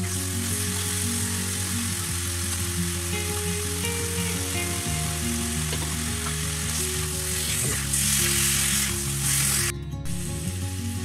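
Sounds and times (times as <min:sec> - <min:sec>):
background music of held notes: 0:00.0 - 0:11.0
food sizzling in oil: 0:00.0 - 0:11.0.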